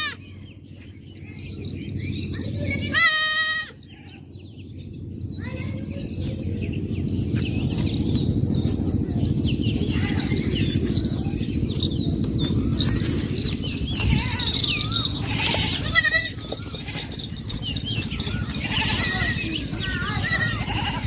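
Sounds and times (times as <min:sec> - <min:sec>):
small birds chirping: 0:00.0 - 0:21.0
steady low rumble: 0:03.9 - 0:21.0.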